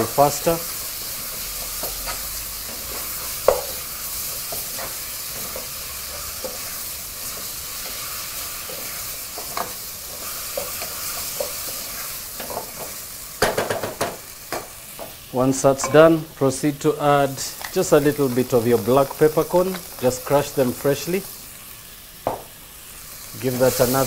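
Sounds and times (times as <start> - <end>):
vegetables sizzling in a pot: 0.0 - 24.0.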